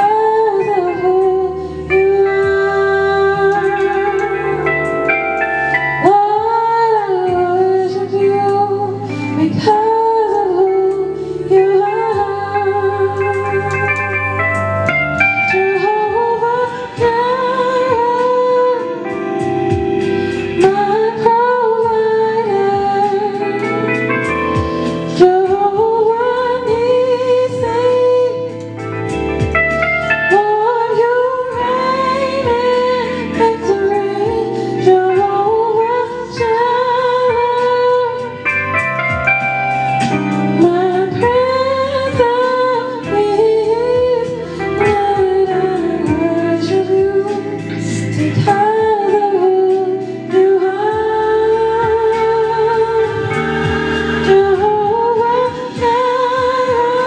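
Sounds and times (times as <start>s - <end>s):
woman singing with vibrato: 0.0s - 29.2s, 29.8s - 57.0s
sustained instrumental chords: 0.0s - 57.0s.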